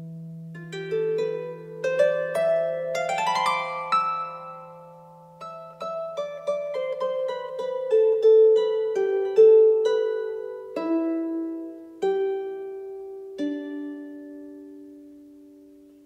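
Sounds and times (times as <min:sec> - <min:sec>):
harp plucked notes: 0:00.0 - 0:16.0.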